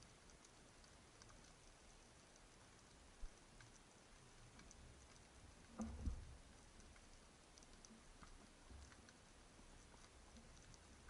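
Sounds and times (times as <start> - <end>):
underwater clicks and crackle: 0.0 - 11.0.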